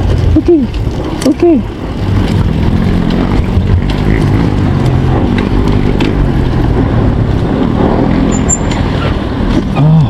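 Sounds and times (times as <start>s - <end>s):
motorcycle engine rumble: 0.0s - 10.0s.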